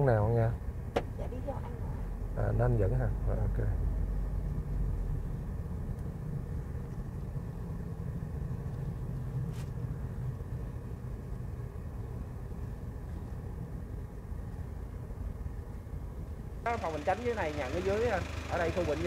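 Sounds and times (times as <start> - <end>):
car cabin engine and tyre rumble: 0.0 - 19.0.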